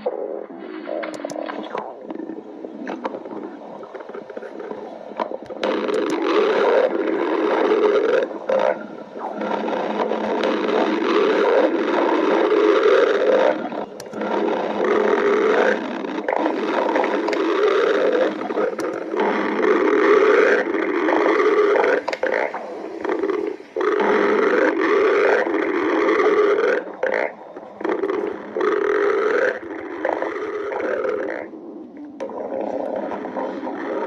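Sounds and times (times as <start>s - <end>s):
stomach growling: 0.0s - 34.0s.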